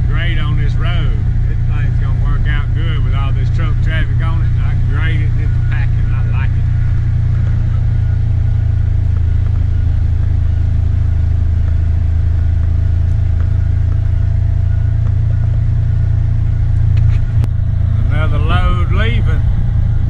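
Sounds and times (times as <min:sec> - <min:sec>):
faint steady whine: 0:00.0 - 0:20.0
vehicle engine droning: 0:00.0 - 0:20.0.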